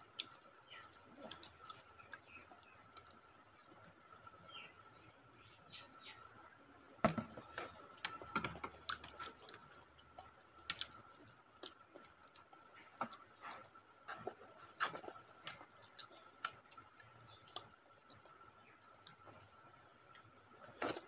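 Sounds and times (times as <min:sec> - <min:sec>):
people chewing noodles: 0:00.0 - 0:04.0, 0:07.5 - 0:21.0.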